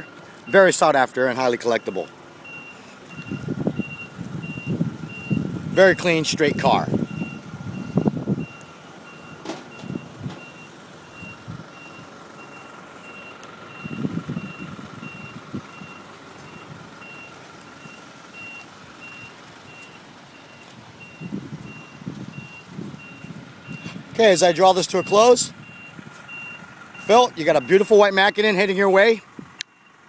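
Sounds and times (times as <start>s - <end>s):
reversing alarm beeping: 0.0s - 0.8s, 1.6s - 30.0s.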